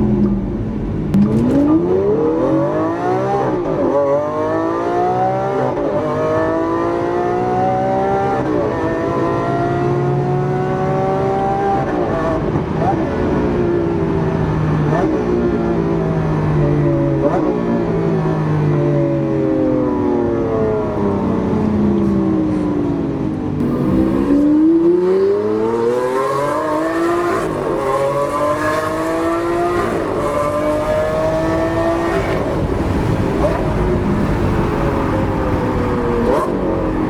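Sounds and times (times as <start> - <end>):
sports car engine accelerating: 0.0 - 37.0.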